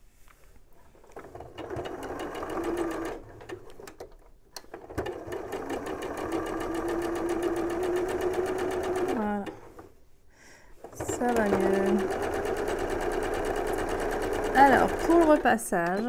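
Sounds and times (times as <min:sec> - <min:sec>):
sewing machine stitching: 0:01.0 - 0:09.9, 0:10.8 - 0:16.0.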